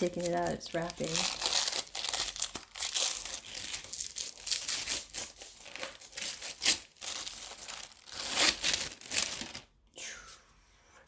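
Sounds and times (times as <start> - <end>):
plastic wrapping crinkling: 0.0 - 9.8.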